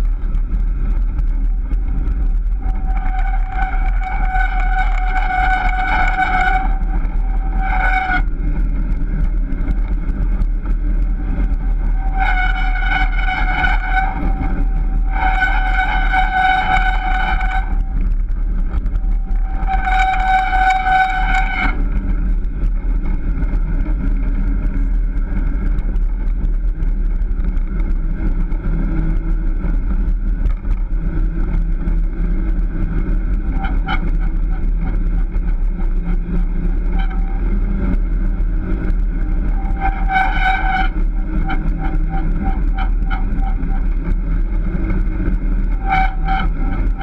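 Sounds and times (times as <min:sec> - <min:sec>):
high steady squeal: 0:00.0 - 0:47.0
wheeled rig rolling on pavement: 0:00.0 - 0:47.0.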